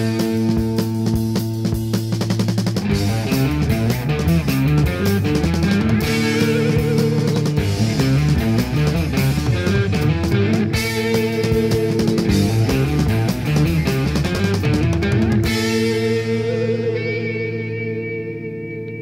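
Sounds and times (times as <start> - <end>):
hard rock with electric guitar: 0.0 - 19.0.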